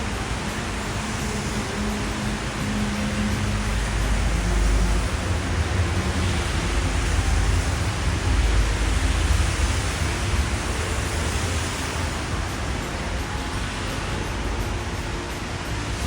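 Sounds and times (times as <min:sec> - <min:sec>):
passing traffic rumble: 0:00.0 - 0:16.0
rain: 0:00.0 - 0:16.0
wet tyres hissing: 0:00.0 - 0:16.0.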